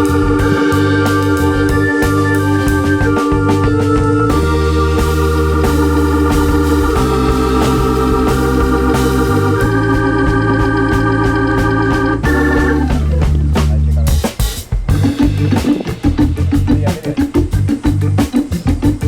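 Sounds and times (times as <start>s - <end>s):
drums: 0.0s - 19.0s
organ chords: 0.0s - 19.0s
steady bass: 0.0s - 19.0s.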